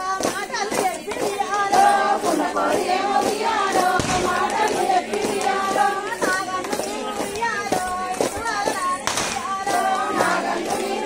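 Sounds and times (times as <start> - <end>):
faint rhythmic hand claps: 0.0 - 11.0
women singing in chorus: 0.0 - 11.0.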